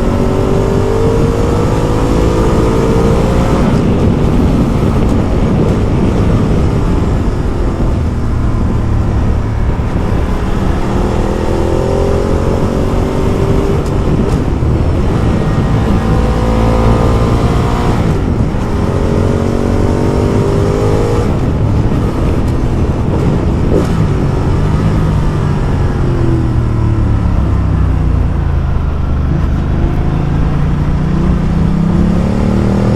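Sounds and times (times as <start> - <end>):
motorcycle engine accelerating: 0.0 - 32.9
wind and road noise: 0.0 - 32.9.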